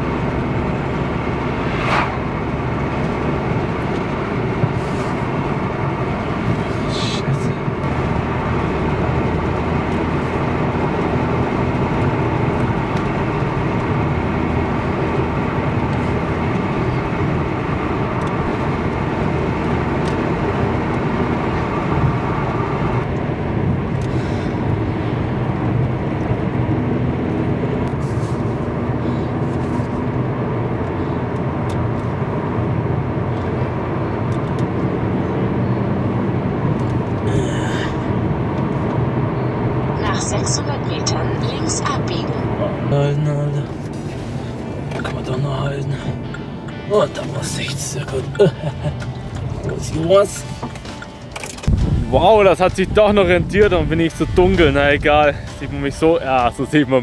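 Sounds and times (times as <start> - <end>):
vehicle hum and rumble: 0.0 - 57.0.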